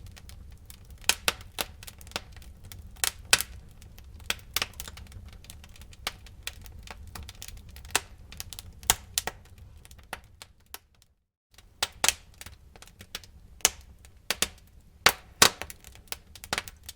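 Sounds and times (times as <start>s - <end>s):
logs crackling and popping: 0.0s - 16.9s
low rumble of flames: 0.0s - 16.9s.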